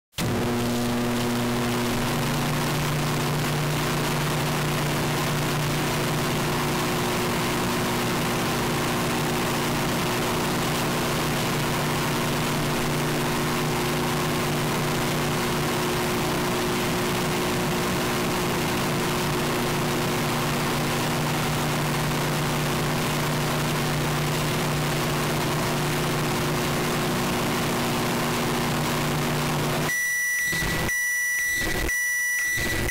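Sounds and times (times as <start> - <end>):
microwave oven humming: 0.2 - 29.9.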